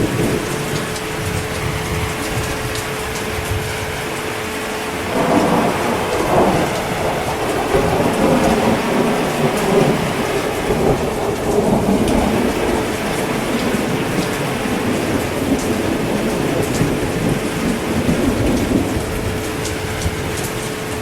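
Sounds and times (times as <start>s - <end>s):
heavy rain: 0.0s - 21.0s
rolling thunder: 0.0s - 21.0s.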